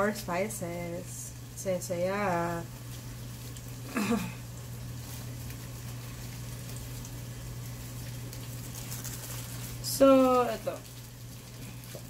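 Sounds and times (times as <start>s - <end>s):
constant low hum: 0.0s - 12.0s
food sizzling in a frying pan: 0.0s - 12.0s.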